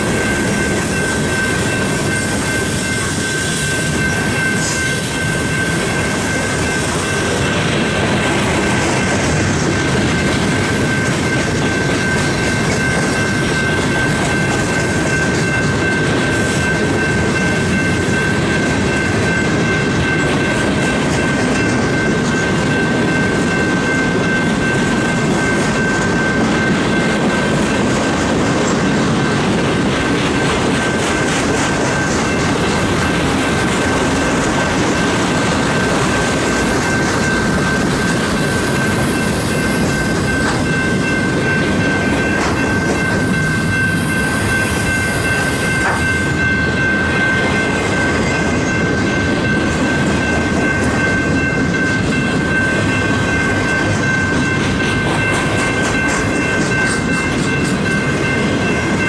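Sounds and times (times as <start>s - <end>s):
train wheels clattering on rails: 0.0s - 59.0s.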